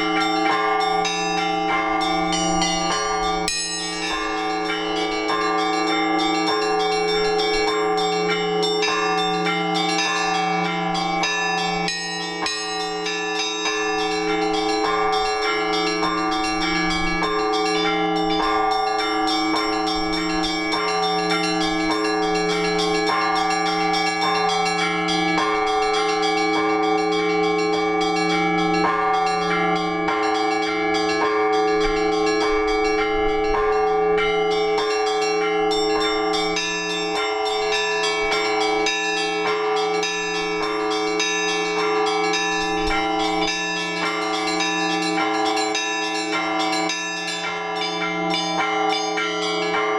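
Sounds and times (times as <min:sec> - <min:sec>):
deep bell strokes: 0:00.0 - 0:49.9
small bells striking fast: 0:00.0 - 0:49.9.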